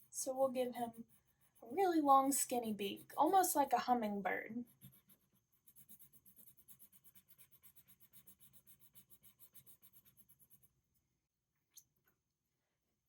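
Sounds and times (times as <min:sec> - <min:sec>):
pencil scratching on paper: 0:00.0 - 0:11.1.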